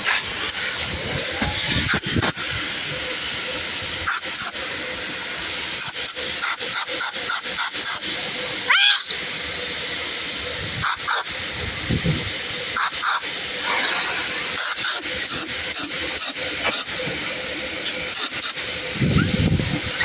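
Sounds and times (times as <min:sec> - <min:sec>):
pressure washer spray hissing: 0:00.0 - 0:20.0.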